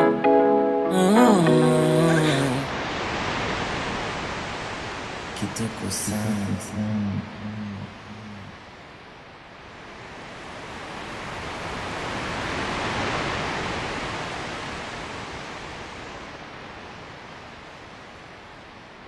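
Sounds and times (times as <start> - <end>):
ocean waves washing: 0.9 - 19.0.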